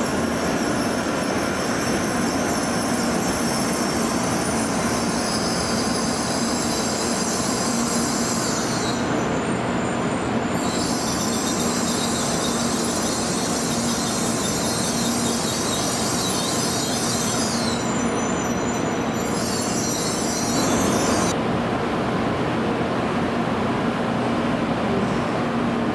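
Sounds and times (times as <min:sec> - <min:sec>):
high-pitched wheel squeal: 0:00.0 - 0:21.4
train running past: 0:00.0 - 0:25.9.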